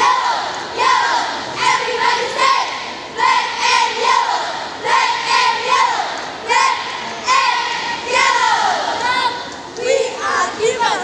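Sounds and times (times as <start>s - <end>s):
girls shouting a cheer in unison: 0.0s - 11.0s.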